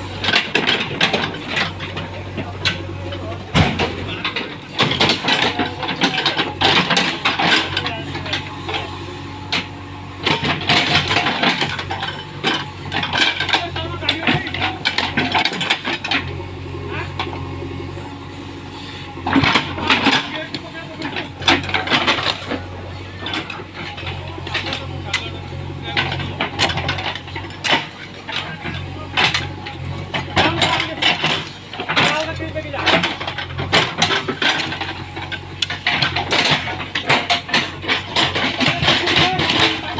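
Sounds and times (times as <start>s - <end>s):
people talking: 0.0s - 9.2s, 10.3s - 18.0s, 19.1s - 39.9s
metallic clanks and rattles: 0.0s - 39.9s
tractor engine running: 0.0s - 39.9s.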